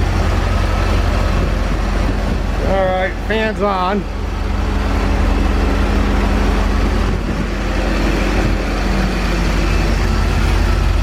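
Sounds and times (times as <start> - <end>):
car engine idling: 0.0 - 11.0
radiator cooling fan running: 0.0 - 11.0.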